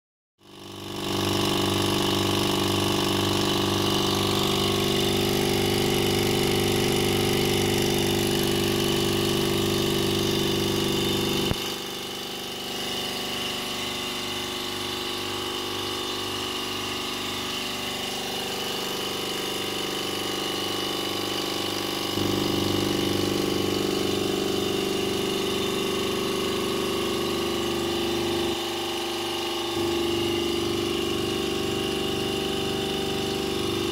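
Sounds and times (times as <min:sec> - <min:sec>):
vacuum pump pulsing hum: 0:00.4 - 0:33.9.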